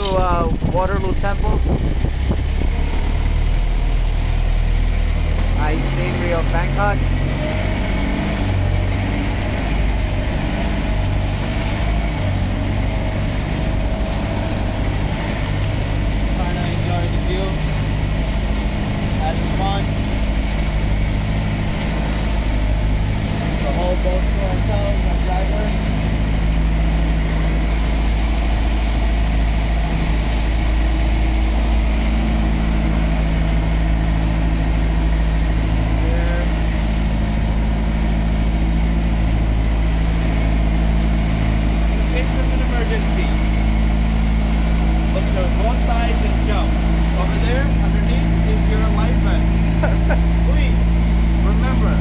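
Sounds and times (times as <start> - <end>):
boat engine droning: 0.0 - 52.0
rushing air and water: 0.0 - 52.0.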